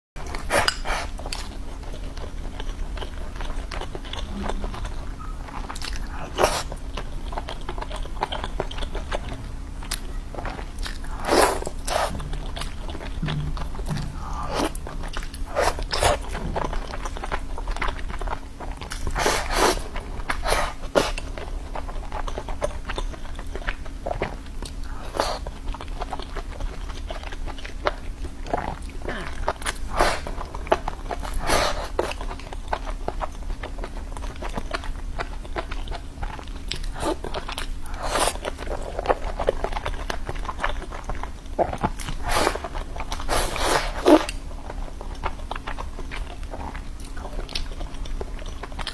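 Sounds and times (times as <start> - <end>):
person crunching and chewing: 0.2 - 48.9
steady low hum: 0.2 - 48.9.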